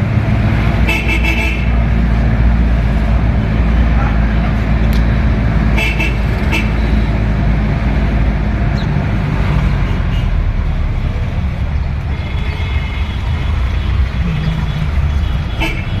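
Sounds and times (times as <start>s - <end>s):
traffic engines and road noise: 0.0s - 16.0s.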